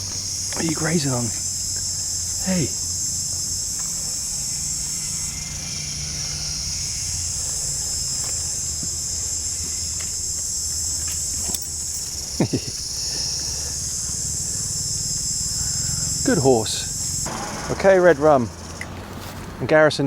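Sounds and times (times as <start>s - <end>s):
low hum: 0.0s - 19.6s
insect chorus: 0.0s - 20.0s.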